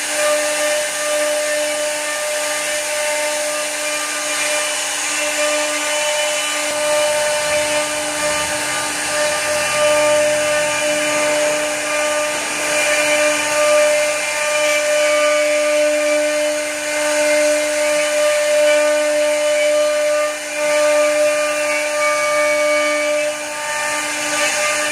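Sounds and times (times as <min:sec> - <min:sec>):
router bits cutting wood: 0:00.0 - 0:24.9.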